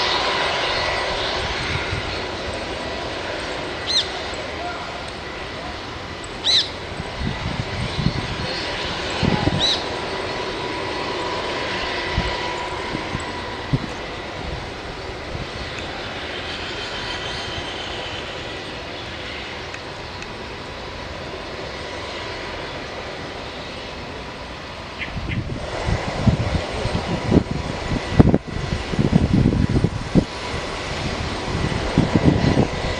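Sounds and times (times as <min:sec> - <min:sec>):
helicopter engines and rotor: 0:00.0 - 0:32.9.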